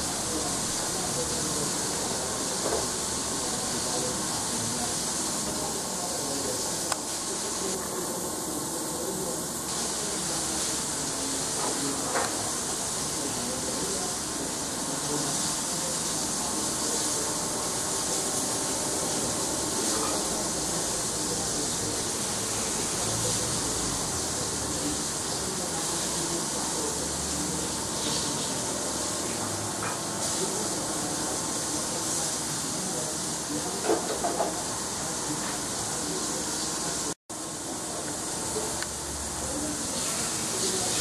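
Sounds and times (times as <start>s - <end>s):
food sizzling in frying pan: 0.0s - 41.0s.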